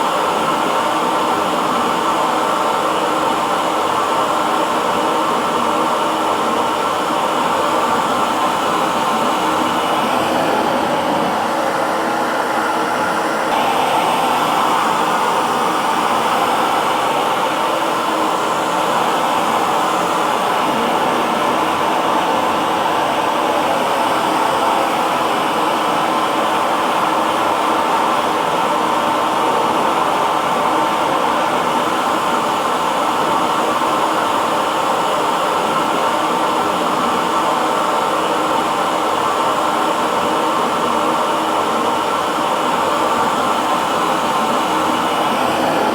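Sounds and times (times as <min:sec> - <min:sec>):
hair dryer running: 0:00.0 - 0:45.9.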